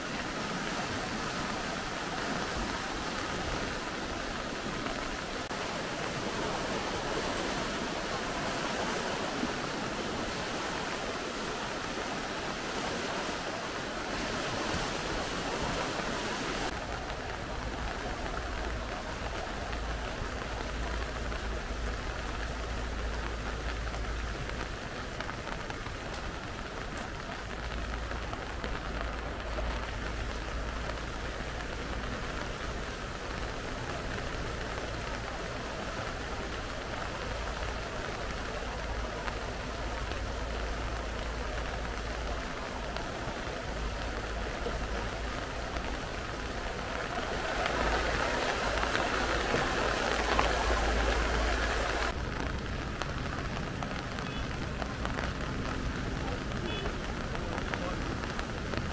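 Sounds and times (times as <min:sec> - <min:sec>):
flooded creek rushing: 0:00.0 - 0:58.9.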